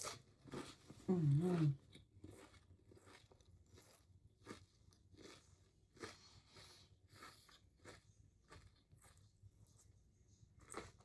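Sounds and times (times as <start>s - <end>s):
person chewing a sandwich: 0.0s - 11.0s.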